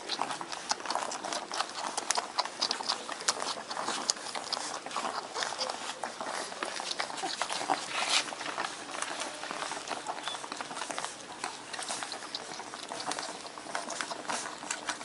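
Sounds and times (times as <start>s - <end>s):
puppies suckling wet smacking: 0.0s - 15.0s.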